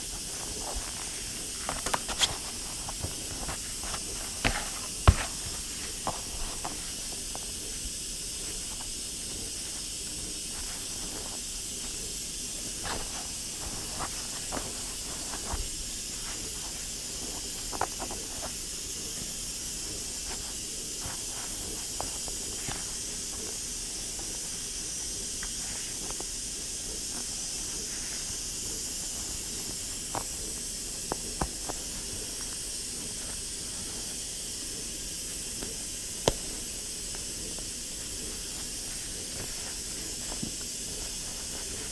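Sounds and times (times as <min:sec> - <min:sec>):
pressure cooker hissing steam: 0:00.0 - 0:41.9.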